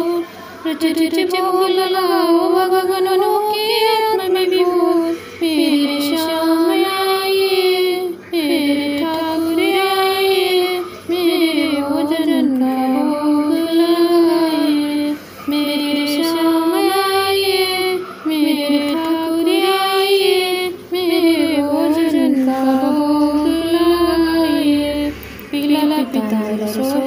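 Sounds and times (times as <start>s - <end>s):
woman singing devotional song: 0.0s - 27.0s.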